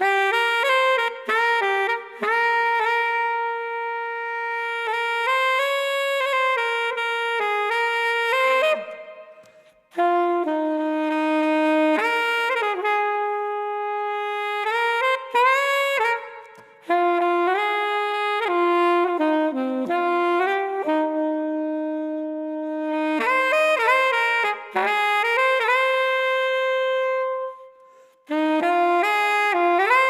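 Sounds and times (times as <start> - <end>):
saxophone slow melody: 0.0 - 30.0.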